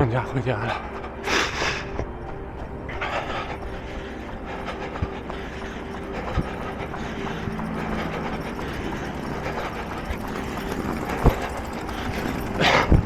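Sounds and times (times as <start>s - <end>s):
steady background hum: 0.1s - 13.0s.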